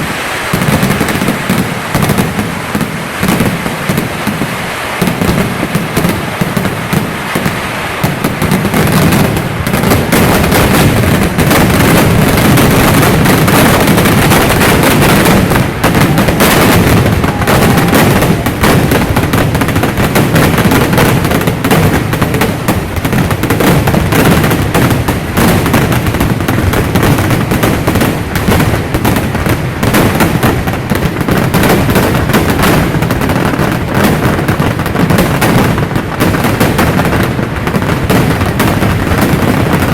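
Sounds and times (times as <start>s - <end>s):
fireworks explosions rattling: 0.0s - 39.9s.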